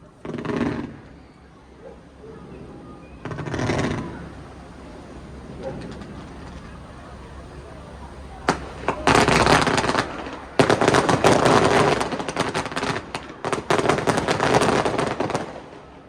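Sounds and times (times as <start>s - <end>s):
fireworks crackling: 0.0s - 16.0s
firework pops: 0.1s - 1.3s, 3.1s - 15.9s.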